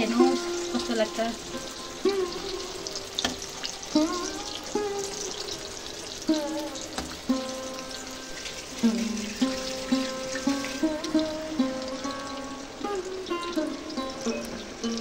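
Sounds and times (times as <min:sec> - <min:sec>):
background melody: 0:00.0 - 0:15.0
food deep-frying in oil: 0:00.0 - 0:15.0.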